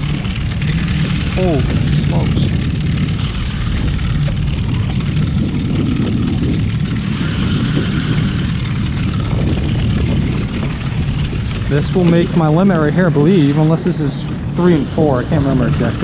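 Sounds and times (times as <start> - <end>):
outboard motor running: 0.0 - 16.0
wind noise on microphone: 0.0 - 16.0.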